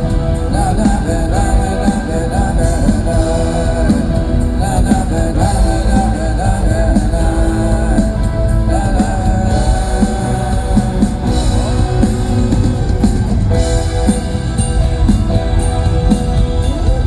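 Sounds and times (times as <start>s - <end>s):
person singing: 0.0s - 17.0s
rock band playing: 0.0s - 17.0s.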